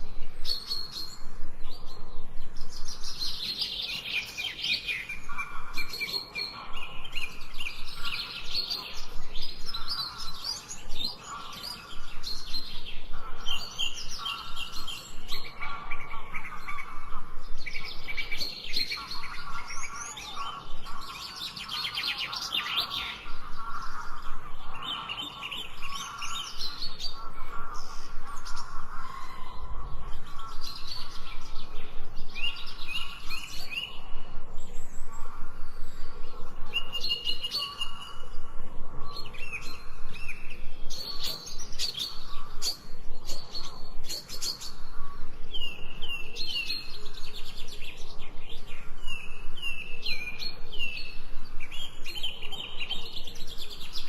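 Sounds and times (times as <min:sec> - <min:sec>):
birds chirping and singing: 0:00.0 - 0:54.0
low repeated bird call: 0:00.0 - 0:54.0.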